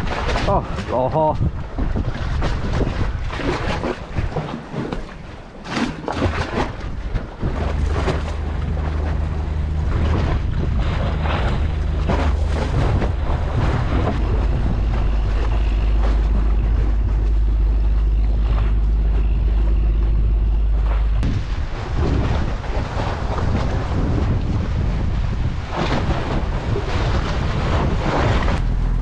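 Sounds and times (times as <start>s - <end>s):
sea washing against breakwater: 0.0s - 29.0s
wind buffeting microphone: 0.0s - 29.0s
low steady drone: 5.4s - 29.0s.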